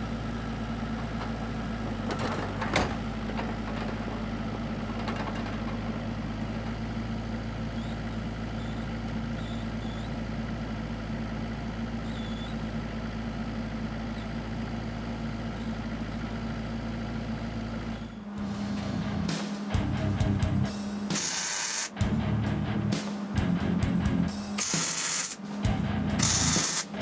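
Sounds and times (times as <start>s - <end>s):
excavator diesel engine idling: 0.0s - 21.1s, 25.4s - 27.0s.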